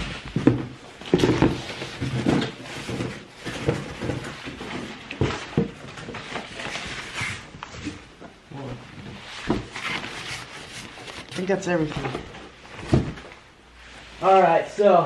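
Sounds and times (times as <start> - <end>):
bubble wrap and paper rustling: 0.0 - 14.5.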